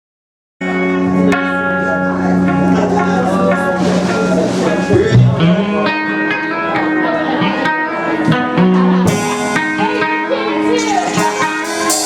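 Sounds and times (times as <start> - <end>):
electric guitar notes: 0.6 - 12.0.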